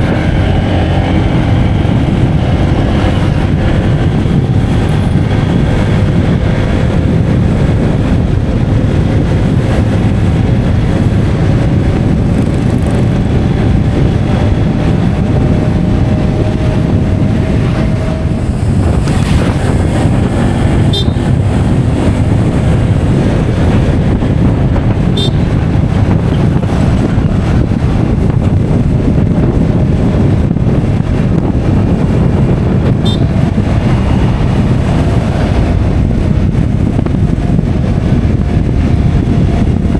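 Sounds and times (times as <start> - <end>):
vehicle rumbling on road: 0.0 - 39.9
wind on microphone: 0.0 - 39.9.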